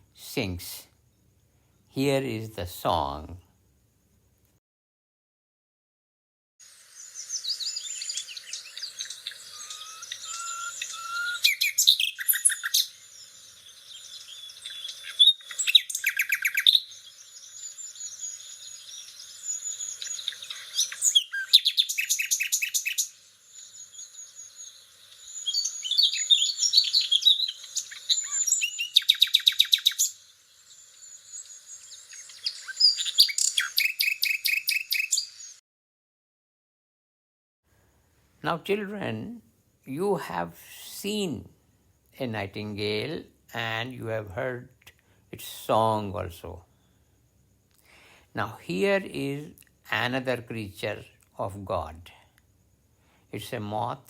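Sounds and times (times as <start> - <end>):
nightingale singing: 0.0 - 3.5, 6.6 - 35.6, 38.4 - 54.0.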